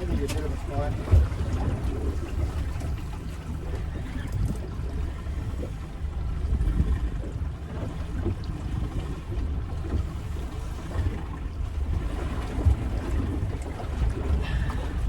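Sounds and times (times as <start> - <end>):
water sloshing against hull: 0.0 - 15.0
wind buffeting microphone: 0.0 - 15.0.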